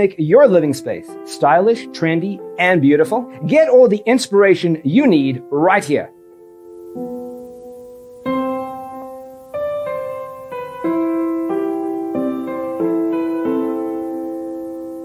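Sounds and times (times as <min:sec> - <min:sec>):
slow piano chords: 0:00.1 - 0:15.0.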